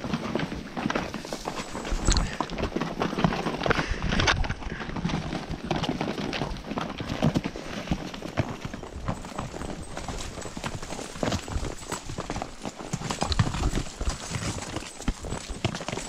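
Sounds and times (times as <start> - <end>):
hooves clattering on rocks: 0.0 - 16.0.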